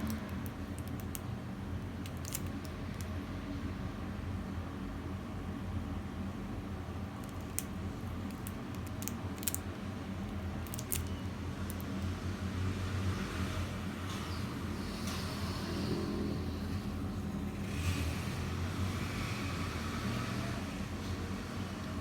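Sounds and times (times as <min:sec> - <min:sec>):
fan motor hum: 0:00.0 - 0:22.0.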